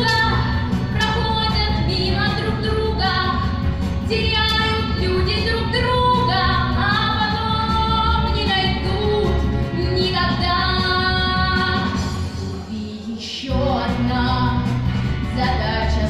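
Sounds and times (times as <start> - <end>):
girl singing into a microphone: 0.0 - 3.4, 4.1 - 14.6.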